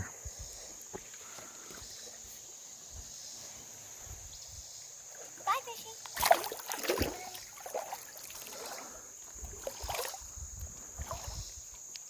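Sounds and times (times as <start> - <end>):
creek water splashing: 0.0 - 12.0.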